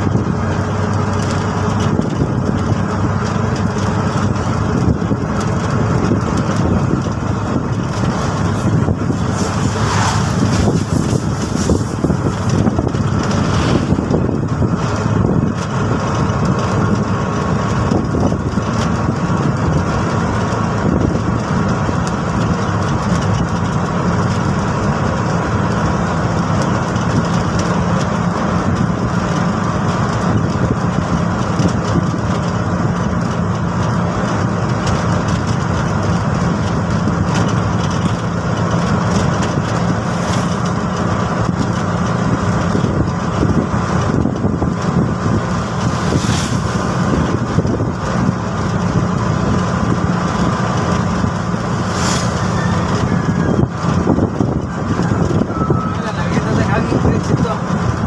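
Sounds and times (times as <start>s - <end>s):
auto-rickshaw engine running: 0.0s - 58.0s.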